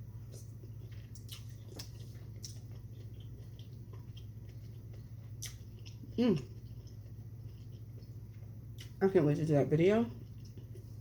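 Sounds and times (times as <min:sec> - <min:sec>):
steady low hum: 0:00.0 - 0:11.0
chewing and wet mouth sounds: 0:00.2 - 0:11.0.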